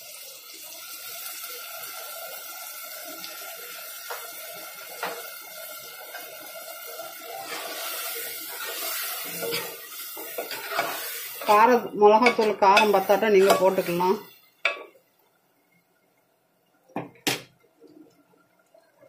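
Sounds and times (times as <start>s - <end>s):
pot hissing on stove: 0.0s - 15.3s.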